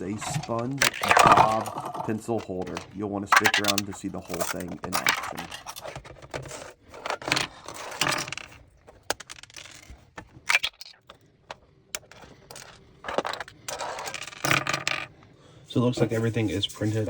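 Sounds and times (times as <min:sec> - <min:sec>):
plastic pieces clicking and clattering: 0:00.0 - 0:15.1.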